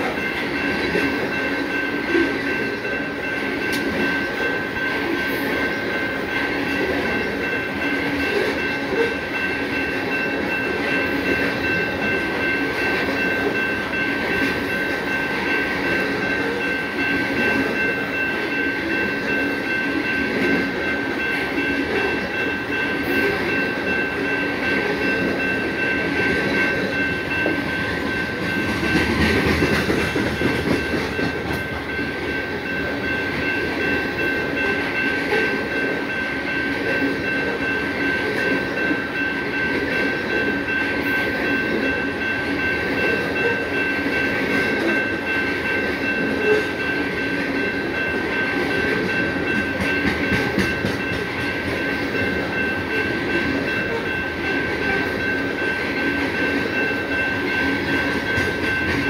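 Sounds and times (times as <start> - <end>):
freight train wheels clattering on rails: 0.0 - 59.0
steady high tones: 0.0 - 59.0.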